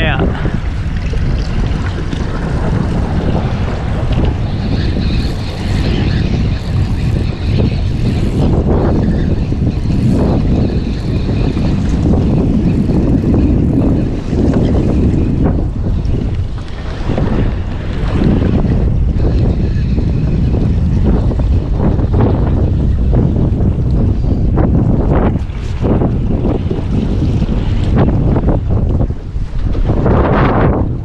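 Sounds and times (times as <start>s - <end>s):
boat motor rumbling: 0.0s - 31.0s
wind buffeting microphone: 0.0s - 31.0s.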